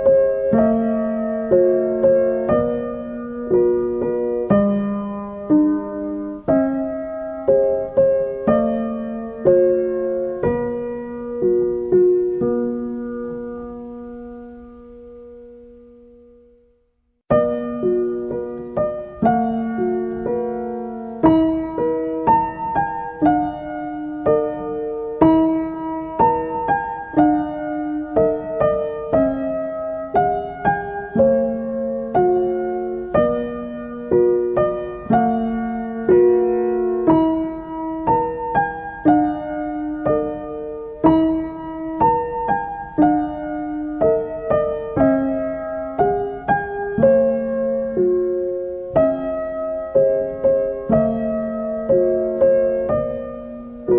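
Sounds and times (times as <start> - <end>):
gentle piano melody: 0.0 - 53.9.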